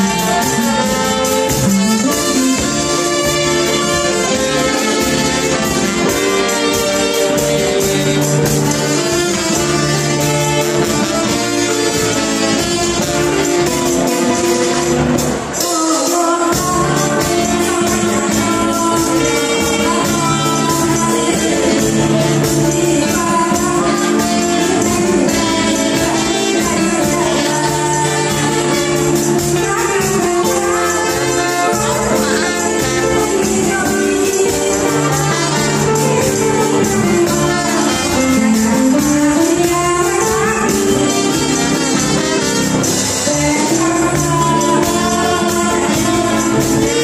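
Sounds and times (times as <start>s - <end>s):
band with drums: 0.0s - 47.0s
ticking high percussion beat: 0.0s - 47.0s
woman singing into microphone: 0.0s - 47.0s.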